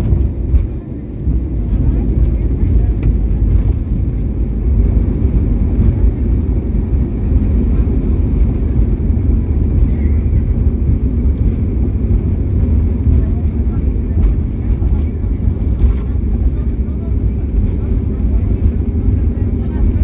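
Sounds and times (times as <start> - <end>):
jet airliner cabin rumble: 0.0 - 20.0.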